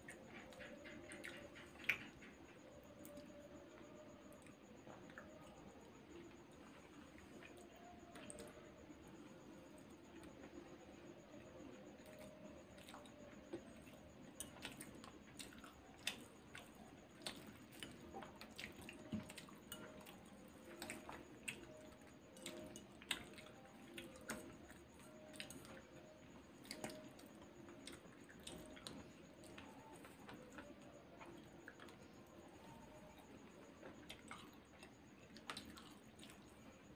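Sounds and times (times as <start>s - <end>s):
low room hum: 0.0s - 36.9s
soft chewing: 0.0s - 36.9s.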